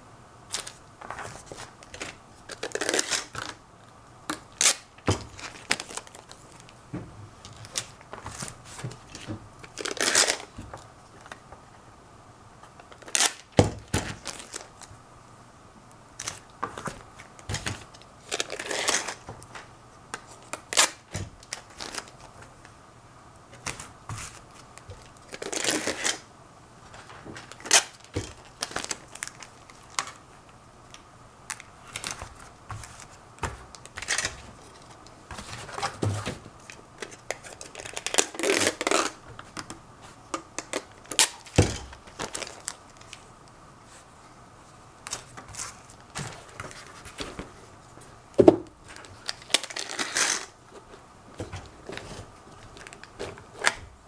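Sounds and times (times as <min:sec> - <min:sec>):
packing tape pulled and crinkled: 0:00.5 - 0:03.6, 0:04.3 - 0:06.8, 0:07.4 - 0:11.5, 0:12.6 - 0:15.0, 0:16.2 - 0:22.7, 0:23.5 - 0:26.3, 0:26.9 - 0:44.0, 0:45.0 - 0:47.5, 0:48.8 - 0:51.0, 0:51.6 - 0:54.0.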